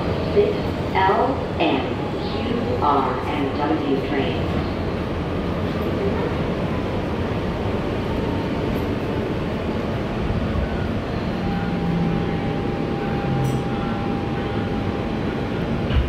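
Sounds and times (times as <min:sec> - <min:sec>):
subway car background noise: 0:00.0 - 0:16.0.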